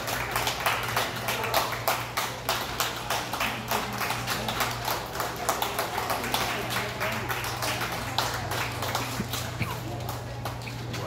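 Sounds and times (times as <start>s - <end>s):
people clapping: 0.0s - 11.0s.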